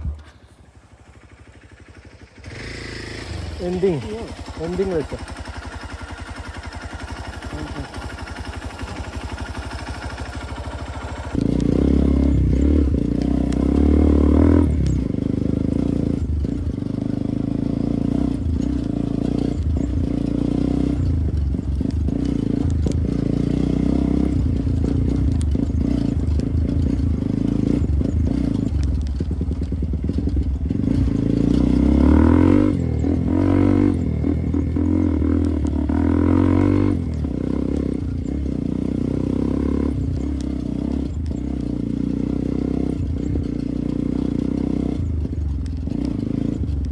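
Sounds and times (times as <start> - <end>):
bike knocking and scraping: 0.0 - 46.9
motorcycle engine revving: 0.0 - 46.9.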